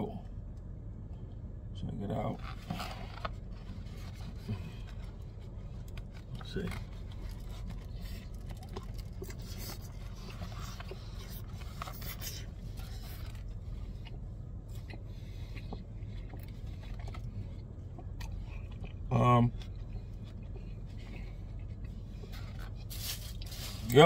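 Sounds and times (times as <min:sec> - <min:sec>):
car cabin hum: 0:00.0 - 0:24.0
person chewing: 0:04.2 - 0:23.6.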